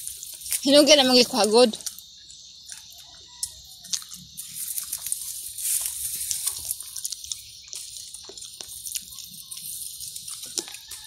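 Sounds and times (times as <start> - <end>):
grass and leaves rustling: 0.0 - 11.0.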